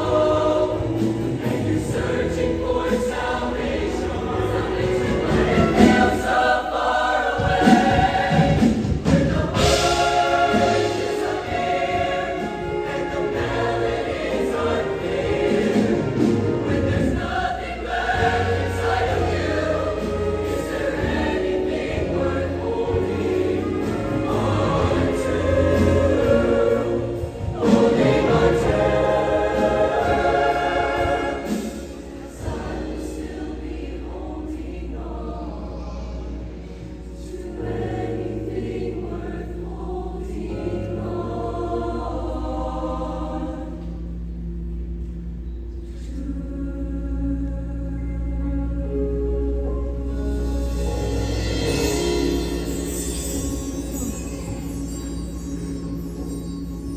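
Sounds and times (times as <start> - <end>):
instrumental accompaniment: 0.0 - 44.0, 48.0 - 56.9
choir singing: 0.0 - 56.9.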